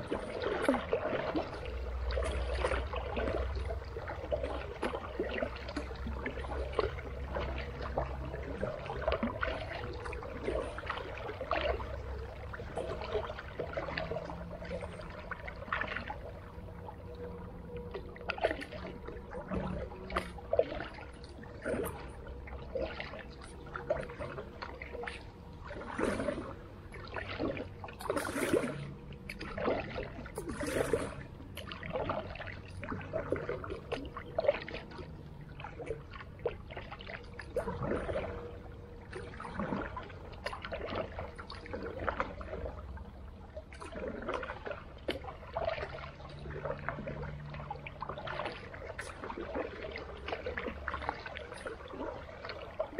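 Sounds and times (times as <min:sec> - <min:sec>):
creek water splashing: 0:00.0 - 0:52.9.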